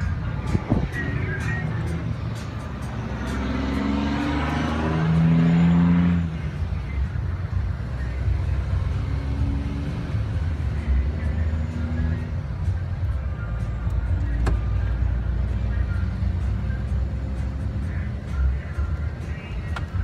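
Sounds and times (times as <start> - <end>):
vehicle engine idling: 0.0 - 5.4, 6.0 - 20.0.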